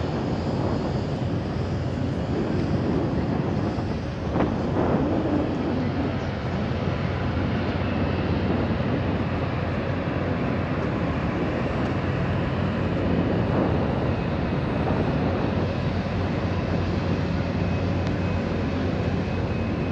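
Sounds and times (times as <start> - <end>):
engine drone: 0.0 - 19.9.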